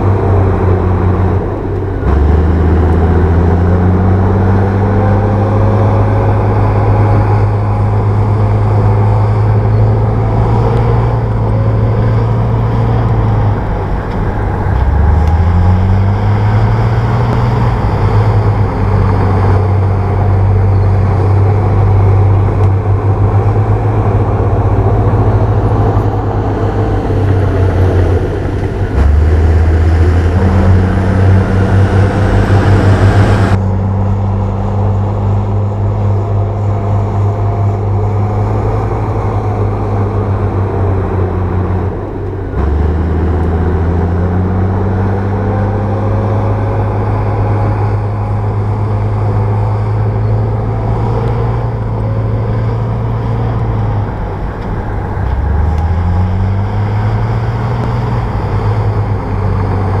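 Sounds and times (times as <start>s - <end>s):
bulldozer diesel engine running: 0.0s - 60.0s.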